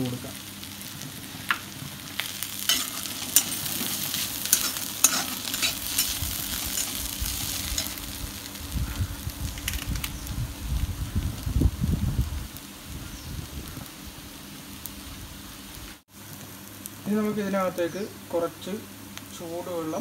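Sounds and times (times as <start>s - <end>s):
gravy sizzling in a pan: 0.0s - 20.0s.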